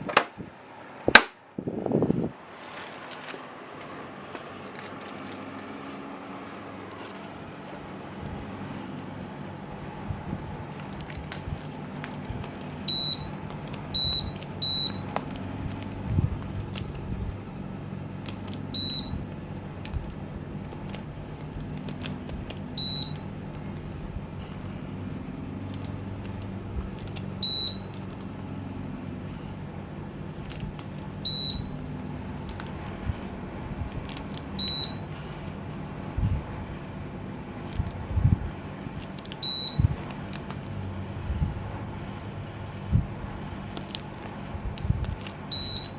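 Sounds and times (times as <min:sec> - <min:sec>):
air conditioner humming: 0:00.0 - 0:45.9.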